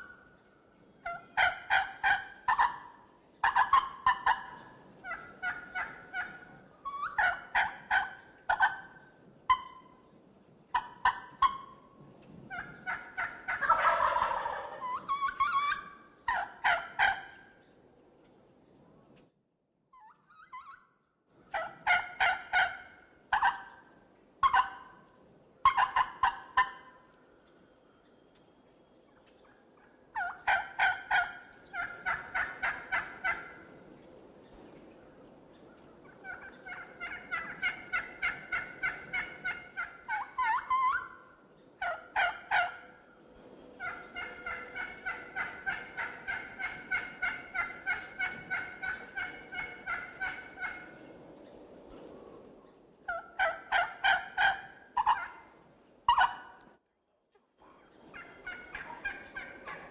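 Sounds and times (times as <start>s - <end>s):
turkeys gobbling: 1.0s - 10.0s, 10.7s - 11.9s, 12.5s - 17.7s, 20.0s - 20.9s, 21.5s - 27.2s, 29.1s - 34.0s, 35.8s - 51.1s, 53.0s - 56.7s, 57.6s - 59.9s.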